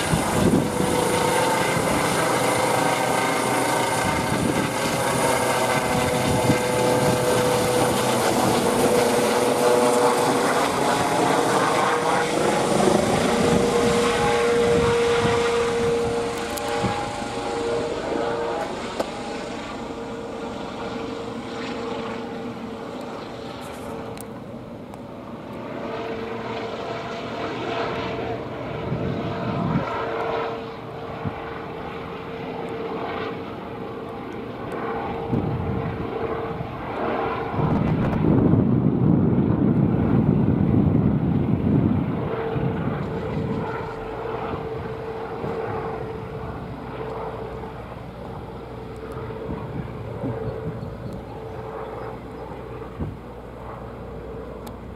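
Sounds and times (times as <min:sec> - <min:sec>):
distant helicopter flying over: 0:00.0 - 0:54.9.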